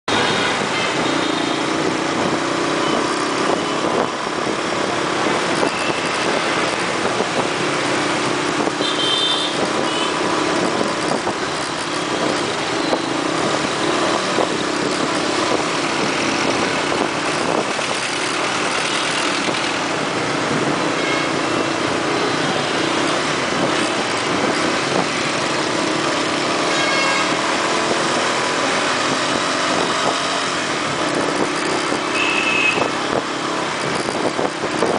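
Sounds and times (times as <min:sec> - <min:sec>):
motorbike and scooter traffic: 0:00.0 - 0:34.9.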